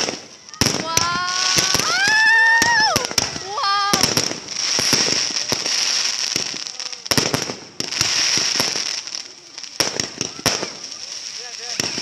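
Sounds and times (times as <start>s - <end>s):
firework bangs and pops: 0.0s - 12.0s
fireworks crackling: 0.0s - 12.0s.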